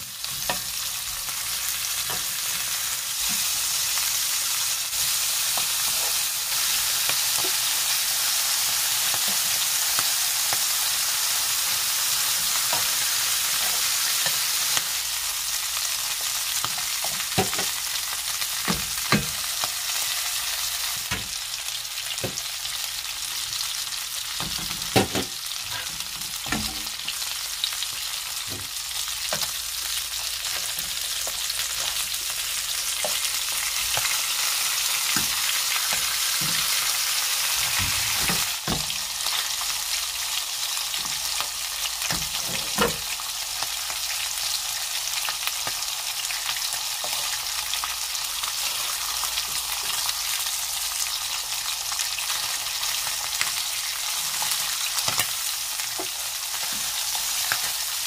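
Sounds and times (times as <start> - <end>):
frying sizzle: 0.0 - 58.0.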